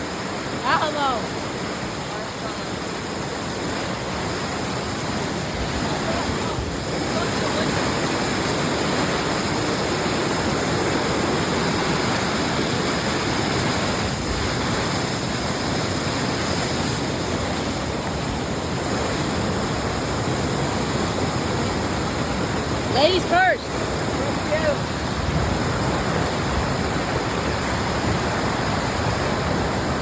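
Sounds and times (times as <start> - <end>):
fast-flowing water rushing: 0.0 - 30.0.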